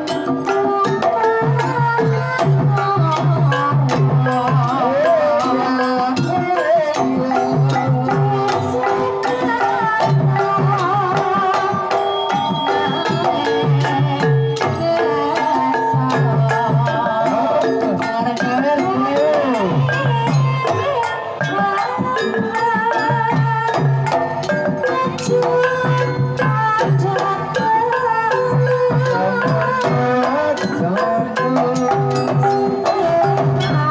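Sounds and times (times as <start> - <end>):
hand drum beating: 0.0 - 33.9
metal keyed instruments and gongs: 0.0 - 33.9
woman singing: 0.0 - 33.9.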